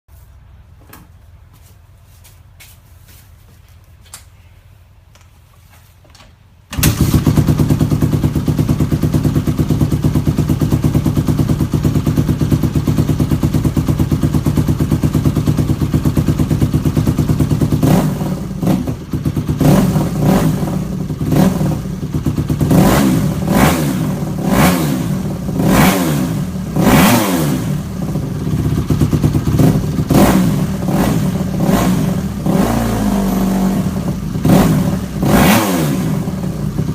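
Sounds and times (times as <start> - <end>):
motorcycle engine idling and revving: 6.8 - 36.9.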